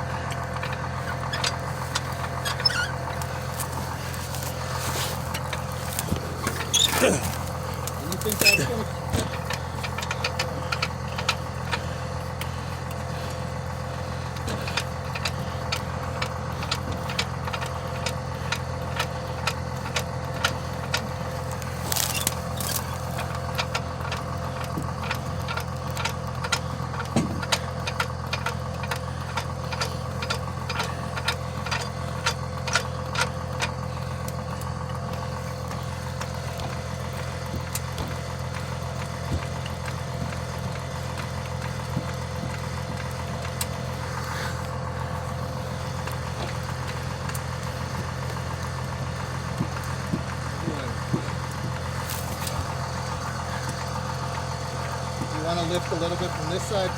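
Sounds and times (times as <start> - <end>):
engine idling: 0.0 - 56.9.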